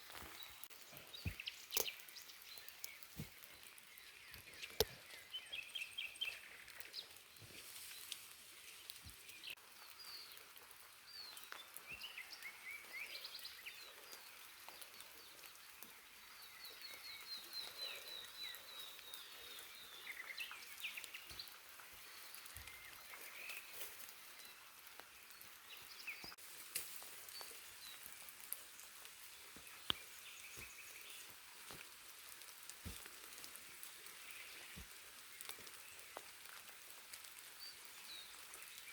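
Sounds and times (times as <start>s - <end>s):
forest birds calling and singing: 0.0s - 26.4s, 27.0s - 38.9s
light rain: 0.0s - 38.9s
water drips: 0.1s - 38.9s.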